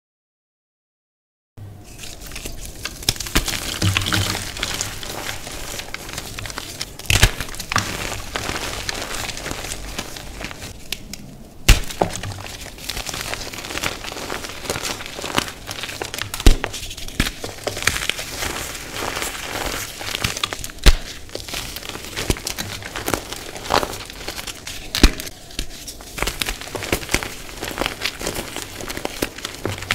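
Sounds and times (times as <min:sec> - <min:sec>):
chalk crunching and crackling: 0:01.8 - 0:29.9.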